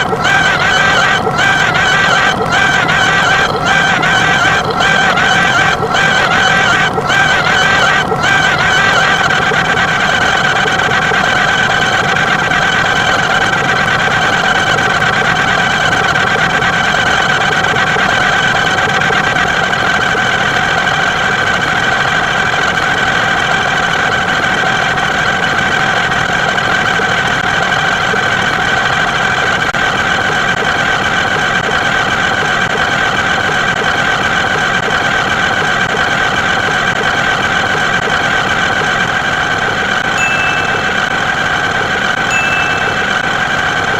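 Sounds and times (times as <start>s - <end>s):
loud engine-like drone: 0.0s - 43.9s.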